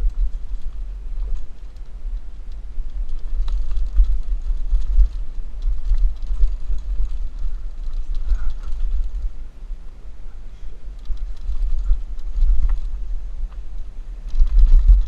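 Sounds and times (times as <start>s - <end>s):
bike clicks and rattles: 0.0s - 9.5s, 10.4s - 15.0s
wind buffeting microphone: 0.0s - 15.0s.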